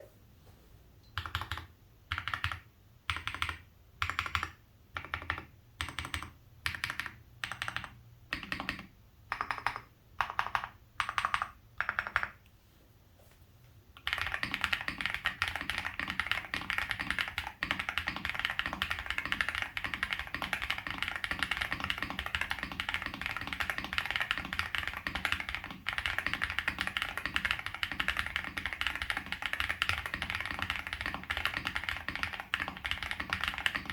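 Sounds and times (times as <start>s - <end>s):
mechanical keyboard typing: 1.2s - 12.4s, 14.0s - 33.9s.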